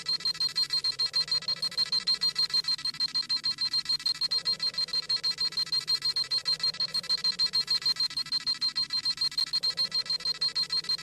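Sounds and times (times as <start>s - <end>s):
rapid electronic beeping: 0.0s - 11.0s.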